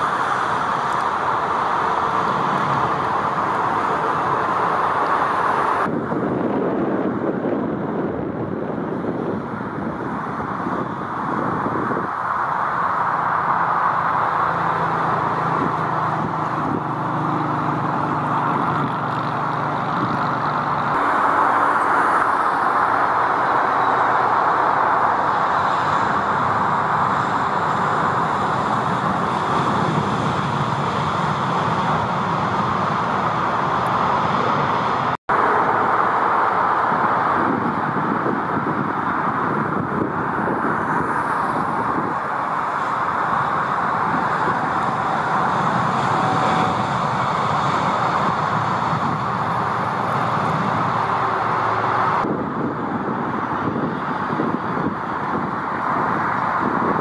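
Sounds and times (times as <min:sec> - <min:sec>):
jet engines rushing: 0:00.0 - 0:57.0.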